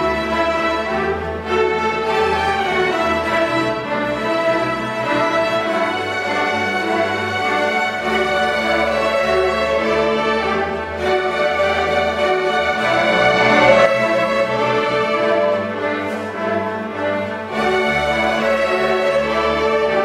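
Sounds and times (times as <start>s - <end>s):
string orchestra playing: 0.0s - 20.0s.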